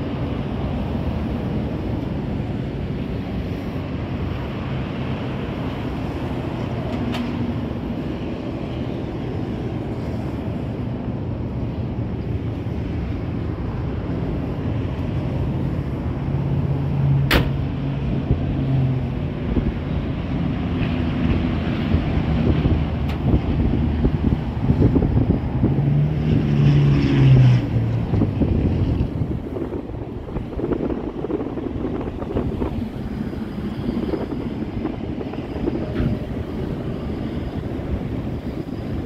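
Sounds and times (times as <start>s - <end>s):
wind on microphone: 0.0s - 39.0s.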